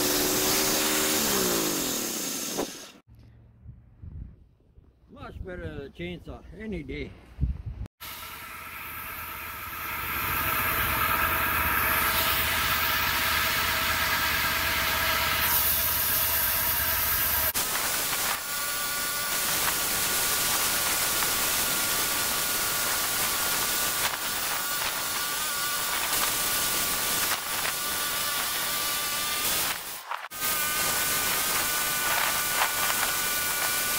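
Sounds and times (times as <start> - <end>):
sawmill engine and blade cutting log: 0.0 - 3.0, 8.0 - 33.9.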